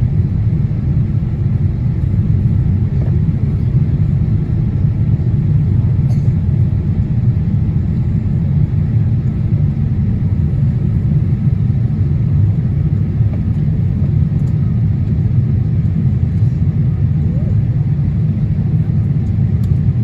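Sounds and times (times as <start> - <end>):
jet engines rumbling: 0.0 - 20.0
rushing air in cabin: 0.0 - 20.0.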